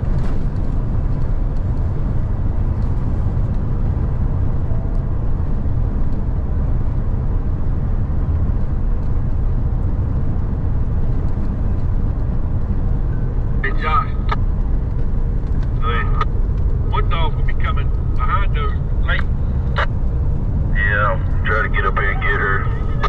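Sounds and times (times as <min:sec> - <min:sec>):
engine and tyre rumble in cab: 0:00.0 - 0:23.0.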